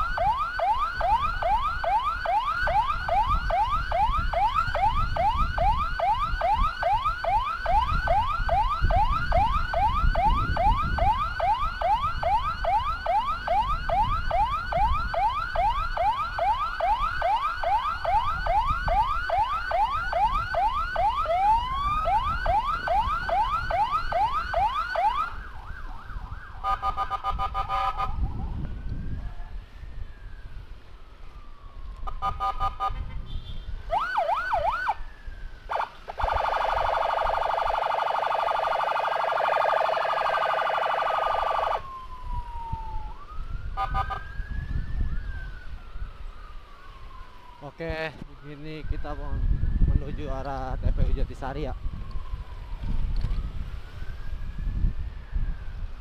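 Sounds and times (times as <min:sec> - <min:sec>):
electronic siren yelp: 0:00.0 - 0:30.6, 0:31.5 - 0:33.2, 0:33.8 - 0:50.6
low road rumble: 0:00.0 - 0:56.0
rising and falling siren wail: 0:00.0 - 0:56.0.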